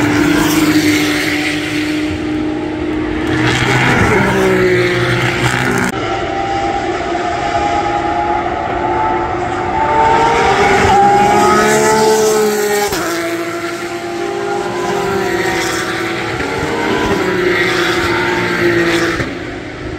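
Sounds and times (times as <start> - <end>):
race car engine accelerating: 0.0 - 19.9.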